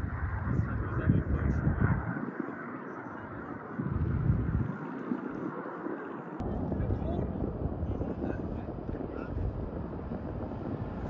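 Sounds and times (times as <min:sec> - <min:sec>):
distant propeller engine: 0:00.0 - 0:11.0
wind on microphone: 0:00.0 - 0:11.0.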